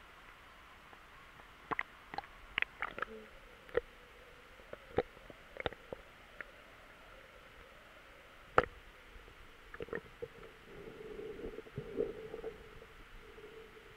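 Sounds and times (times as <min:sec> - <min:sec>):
underwater steady hum: 0:00.0 - 0:13.9.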